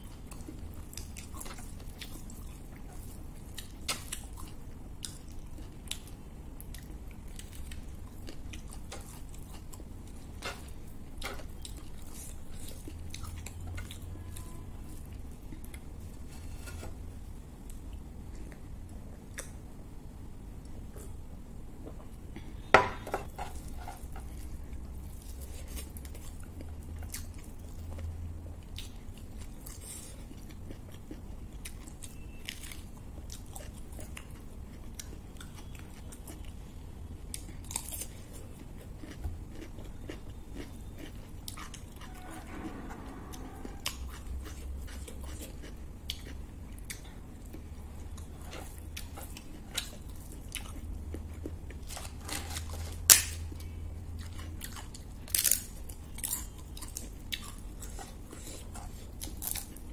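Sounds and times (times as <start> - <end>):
person chewing and crunching food: 0.0 - 19.8, 22.3 - 59.9.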